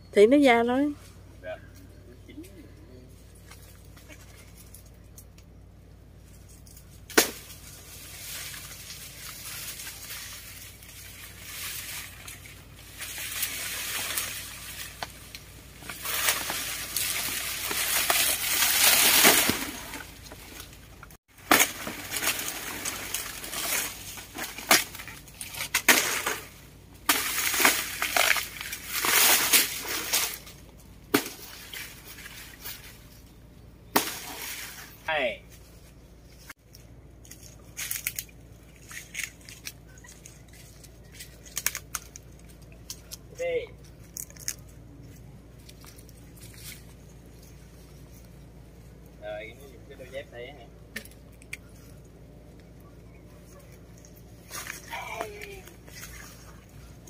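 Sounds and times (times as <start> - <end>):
dry leaves rustling and crackling: 6.1 - 50.3, 50.9 - 57.0.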